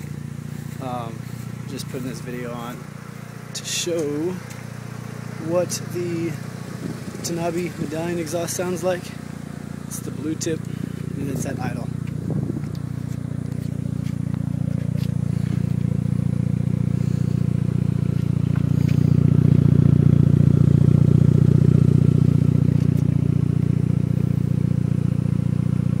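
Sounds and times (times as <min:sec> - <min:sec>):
car exhaust idling rumble: 0:00.0 - 0:26.0.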